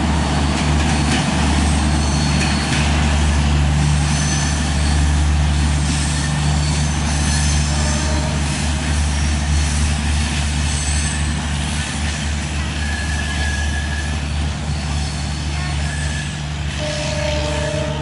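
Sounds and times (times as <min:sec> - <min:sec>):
train coaches rumbling on rails: 0:00.0 - 0:18.0.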